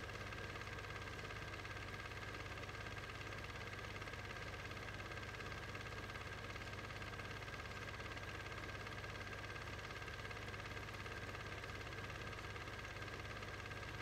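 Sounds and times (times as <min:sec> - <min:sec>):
mechanical hum with rapid flutter: 0:00.0 - 0:14.0.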